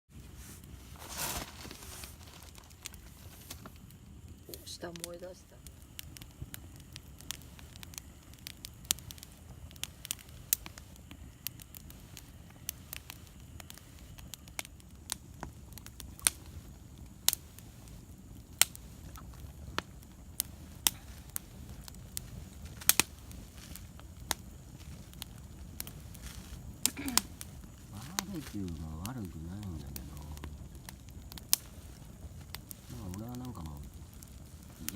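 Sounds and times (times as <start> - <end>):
bonfire crackling: 0.1 - 34.9
low steady rumble: 0.1 - 34.9
sharp pops: 0.6 - 34.9.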